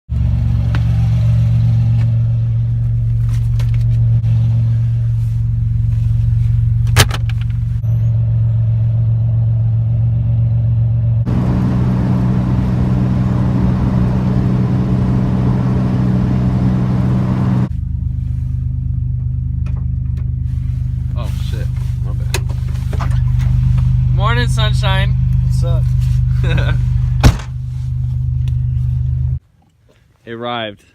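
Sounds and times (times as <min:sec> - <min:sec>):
car engine drone: 0:00.1 - 0:29.4.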